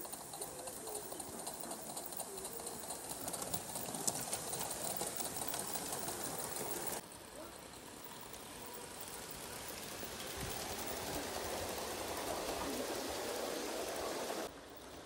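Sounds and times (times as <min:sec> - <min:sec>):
fine rapid crackle and ticking: 0:00.0 - 0:13.6
steam locomotive simmering: 0:00.0 - 0:15.0.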